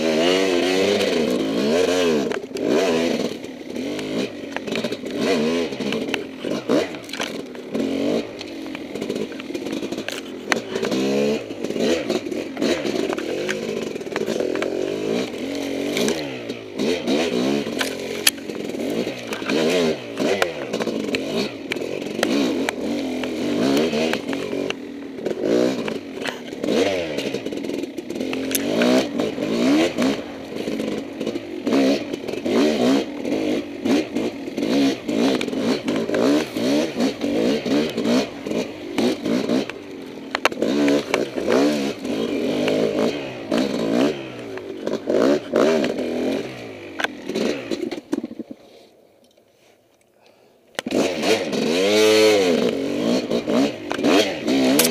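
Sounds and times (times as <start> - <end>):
dirt bike engine revving: 0.0 - 48.9, 50.2 - 54.9
sharp clicks and clatter: 2.1 - 48.6, 52.3 - 54.9.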